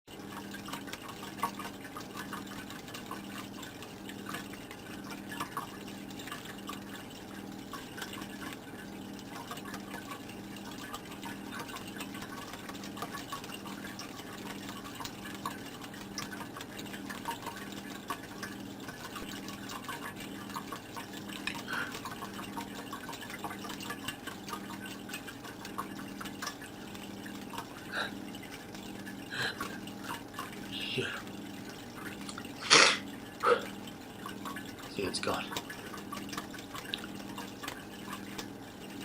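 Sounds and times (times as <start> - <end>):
aquarium water bubbling: 0.1 - 39.0.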